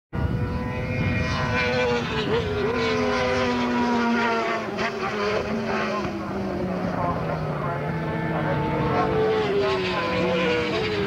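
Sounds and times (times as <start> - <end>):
racing motorcycle engines: 0.2 - 11.0.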